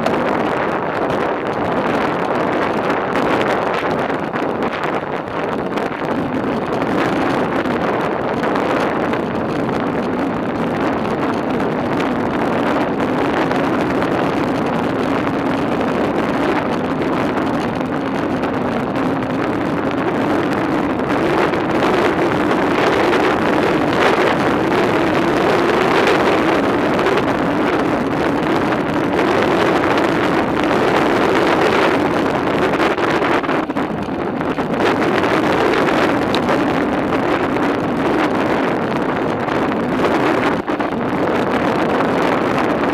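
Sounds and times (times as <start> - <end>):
bicycle tyres rolling on pavement: 0.0 - 42.9
wind on microphone: 0.0 - 42.9.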